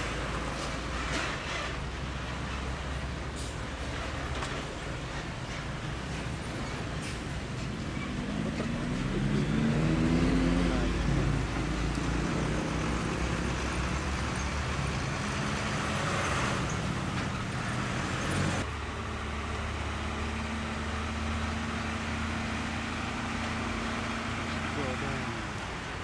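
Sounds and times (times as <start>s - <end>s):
truck passing with tyre noise: 0.0s - 26.0s
diesel truck engine humming: 1.8s - 26.0s.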